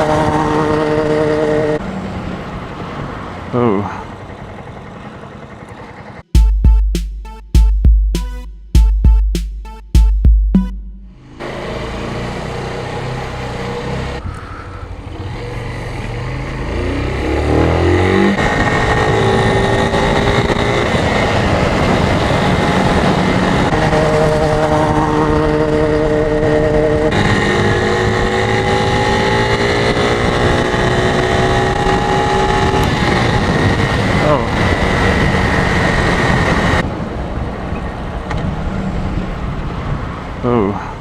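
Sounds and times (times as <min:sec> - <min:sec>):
motorcycle engine accelerating: 0:00.0 - 0:03.5, 0:04.1 - 0:14.2, 0:14.9 - 0:36.8.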